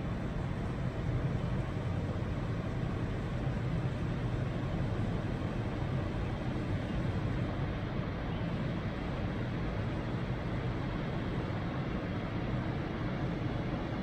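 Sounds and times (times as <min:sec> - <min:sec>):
ship rumble and rushing noise: 0:00.0 - 0:14.0.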